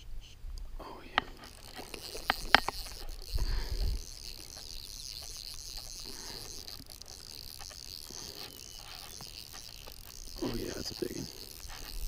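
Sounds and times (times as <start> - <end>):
faint ticks of fly line: 0.0 - 12.0
insect chirping: 0.0 - 12.0.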